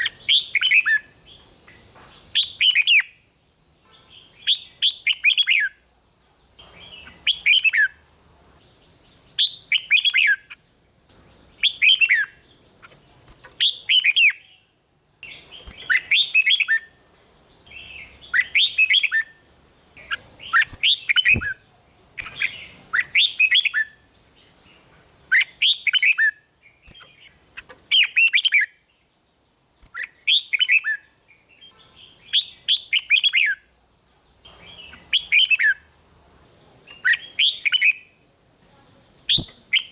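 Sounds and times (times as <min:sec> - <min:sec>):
bird singing whistled notes: 0:00.0 - 0:03.2, 0:03.9 - 0:05.8, 0:06.7 - 0:08.0, 0:08.8 - 0:17.0, 0:17.6 - 0:29.1, 0:29.8 - 0:33.7, 0:34.5 - 0:35.9, 0:36.8 - 0:38.2, 0:39.2 - 0:39.9.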